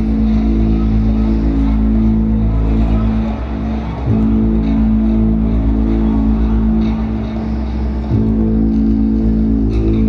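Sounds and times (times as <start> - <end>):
deep synthesizer drone: 0.0 - 10.0.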